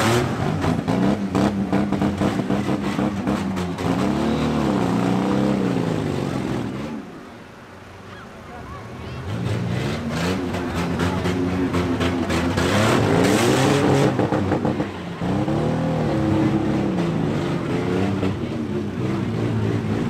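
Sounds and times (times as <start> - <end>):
car engines revving hard: 0.0 - 7.4, 9.0 - 20.0.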